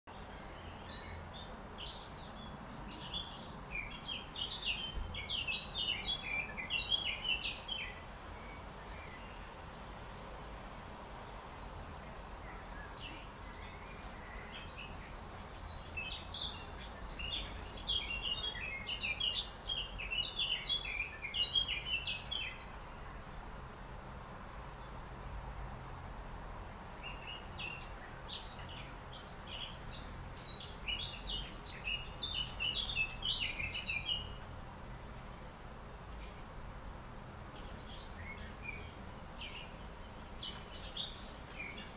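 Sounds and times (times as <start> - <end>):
songbird twittering: 0.1 - 25.0, 25.6 - 41.9.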